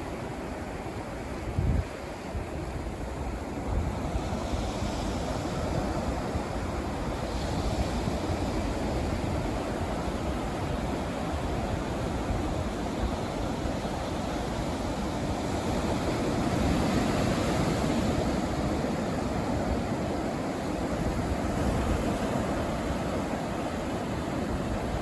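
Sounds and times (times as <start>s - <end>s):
surf washing onto sandy beach: 0.0s - 25.0s
wind rumbling on microphone: 0.2s - 25.0s.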